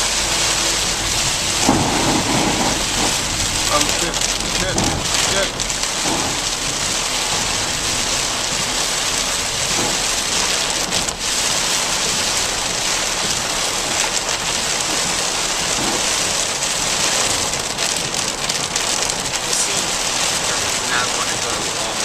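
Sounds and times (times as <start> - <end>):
heavy rain on a car: 0.0 - 22.0.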